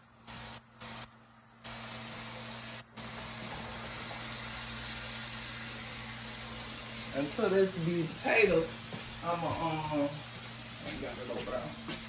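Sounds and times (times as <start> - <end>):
chorizo sizzling in a skillet: 0.0 - 10.8
faint low electrical hum: 0.0 - 12.0.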